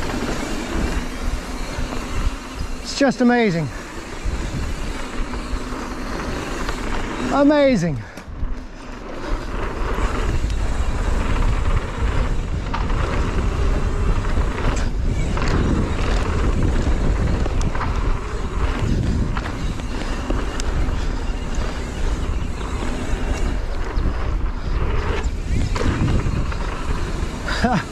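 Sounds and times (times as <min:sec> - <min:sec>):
bike clicks and rattles: 0:00.0 - 0:27.9
tyres humming on dirt: 0:00.0 - 0:27.9
wind rushing on microphone: 0:00.0 - 0:27.9.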